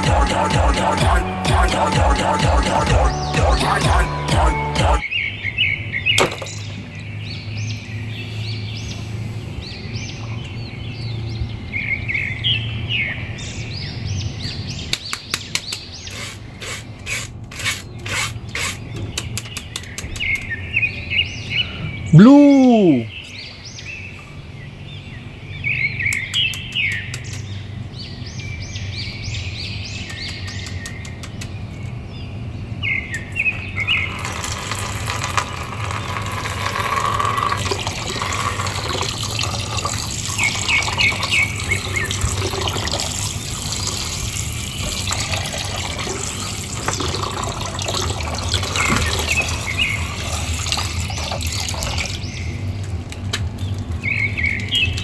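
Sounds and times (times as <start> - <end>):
small birds chirping: 5.0 - 55.0.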